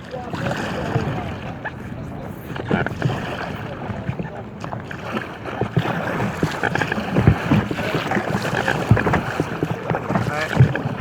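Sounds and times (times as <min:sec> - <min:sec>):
water splashing around a kayak: 0:00.0 - 0:11.0
wind on microphone: 0:00.0 - 0:11.0
low knocks on a hull: 0:00.1 - 0:11.0.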